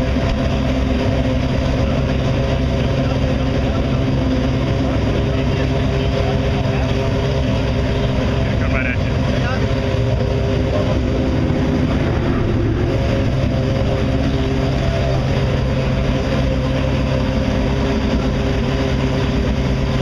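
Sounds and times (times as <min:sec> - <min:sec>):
race car engine idling: 0:00.0 - 0:20.0.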